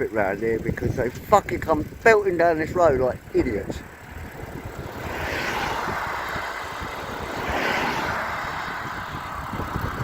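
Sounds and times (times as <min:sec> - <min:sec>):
cars passing: 0:01.8 - 0:10.0.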